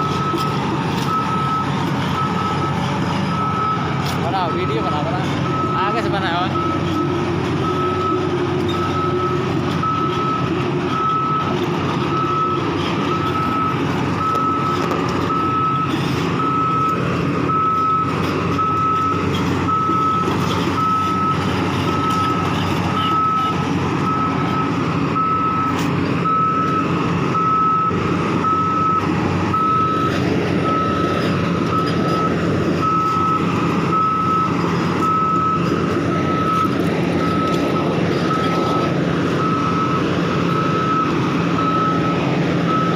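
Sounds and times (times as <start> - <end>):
diesel engine running: 0.0 - 42.9
repeating warning beep: 0.0 - 42.9.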